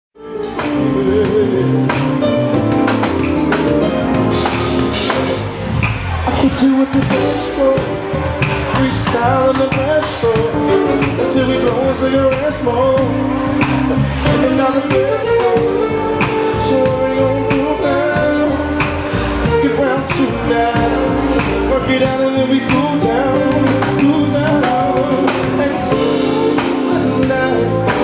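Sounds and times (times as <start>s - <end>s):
bass: 0.2s - 28.0s
drums: 0.2s - 28.0s
keyboards: 0.2s - 28.0s.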